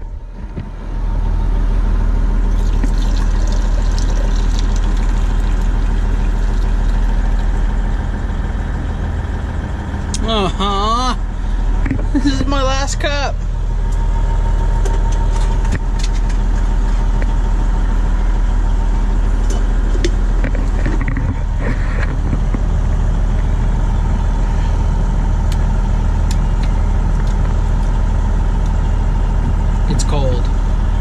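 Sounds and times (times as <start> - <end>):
truck diesel engine idling: 0.0 - 31.0.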